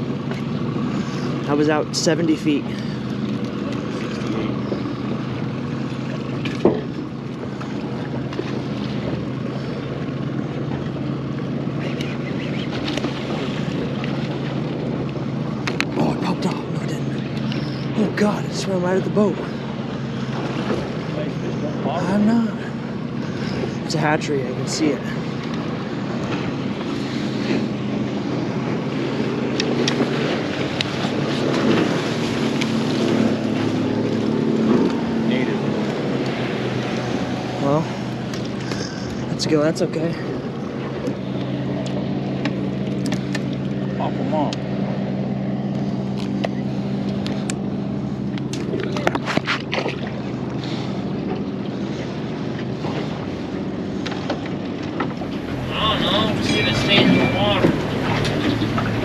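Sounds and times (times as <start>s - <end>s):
boat motor running: 0.0s - 59.0s
water washing: 0.0s - 59.0s.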